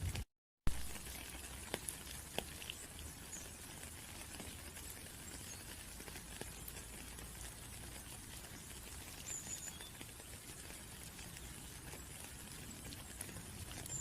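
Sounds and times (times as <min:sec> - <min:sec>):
raindrops pattering and ticking: 0:00.0 - 0:14.0
steady rain: 0:00.0 - 0:14.0.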